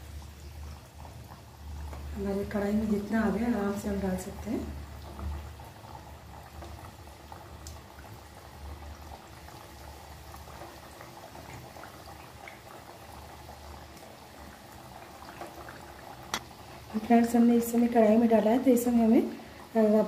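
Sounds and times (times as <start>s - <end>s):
dough deep-frying in oil: 0.0s - 20.0s.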